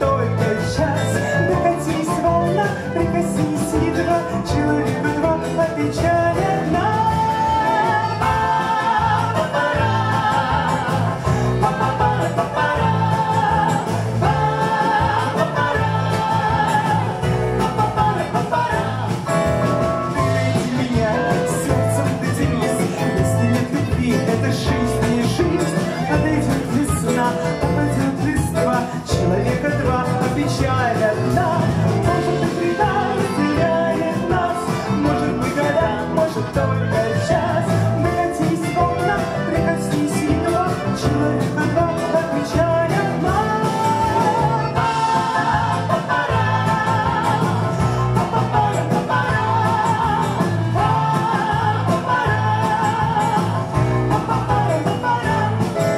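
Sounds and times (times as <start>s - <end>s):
woman singing: 0.0s - 19.3s, 20.2s - 55.9s
acoustic guitar: 0.0s - 55.9s
bass: 0.0s - 55.9s
button accordion: 0.0s - 55.9s
drums: 0.0s - 55.9s
live band playing: 0.0s - 55.9s
piano: 0.0s - 55.9s.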